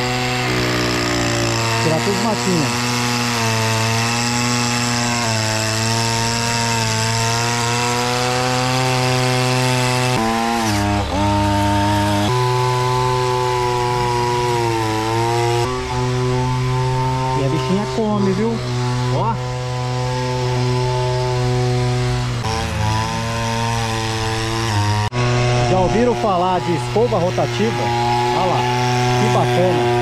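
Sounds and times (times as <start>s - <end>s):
brushcutter engine at high speed: 0.0s - 30.0s
wire brush scrubbing paving: 0.0s - 30.0s.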